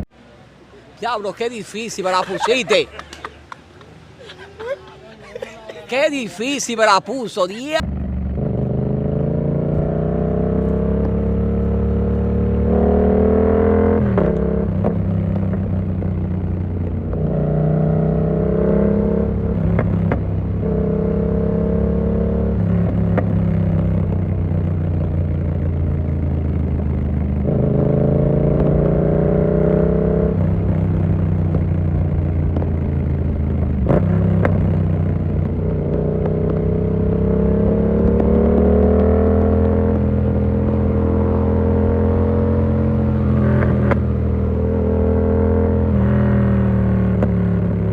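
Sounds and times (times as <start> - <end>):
motorcycle engine shifting gears: 7.8 - 47.9.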